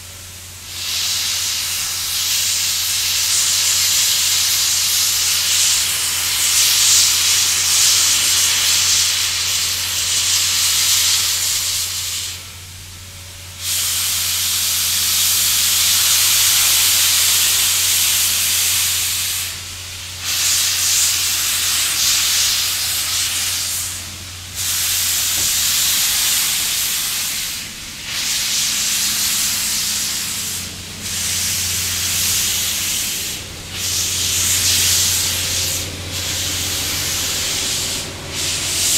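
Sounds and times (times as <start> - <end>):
steam locomotive hissing: 0.0 - 38.9.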